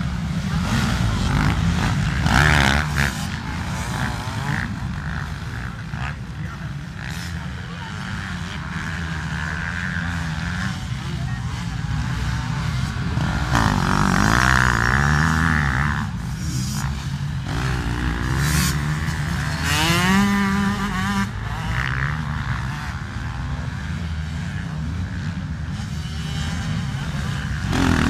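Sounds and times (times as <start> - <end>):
bikes running in background: 0.0 - 28.0
dirt bike engines revving: 0.0 - 28.0.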